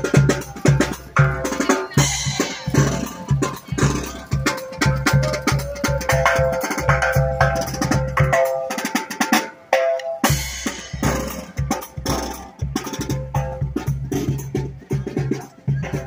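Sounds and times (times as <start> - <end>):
bass drum and snare beat: 0.0 - 16.0.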